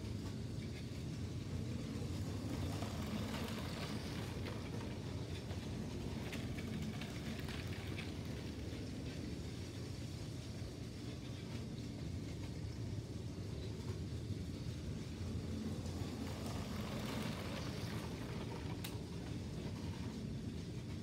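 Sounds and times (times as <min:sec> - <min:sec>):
toy train motor hum: 0:00.0 - 0:11.7, 0:14.7 - 0:21.0
wheel rumble on plastic track: 0:00.0 - 0:21.0.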